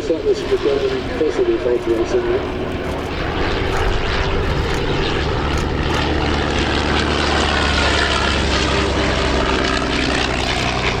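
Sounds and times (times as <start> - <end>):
propeller aircraft engine drone: 0.0 - 11.0.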